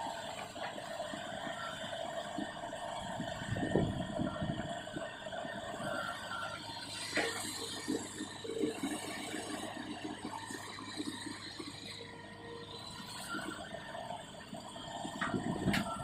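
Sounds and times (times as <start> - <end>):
excavator engine and hydraulic drone: 0.0 - 16.0.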